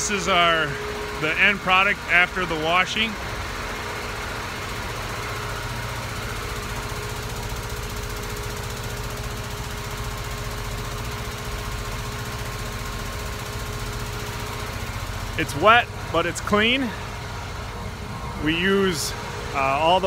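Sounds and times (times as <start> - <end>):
steady hum tones: 0.0 - 9.2, 12.1 - 20.0
rapid pulsing rattle: 0.0 - 20.0.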